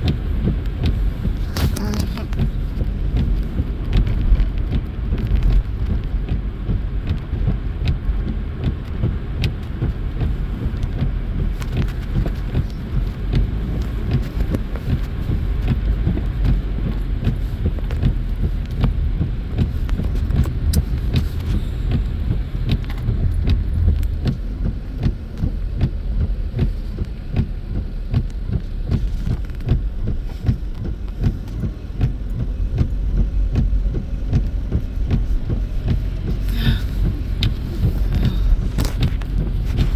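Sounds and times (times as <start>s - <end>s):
tyres and engine rumble inside car: 0.0s - 39.9s.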